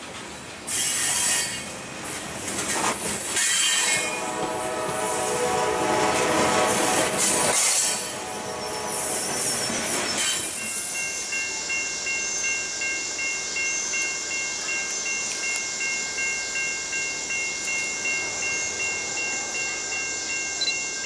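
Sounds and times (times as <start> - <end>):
crossing bell ringing: 1.5 - 21.0.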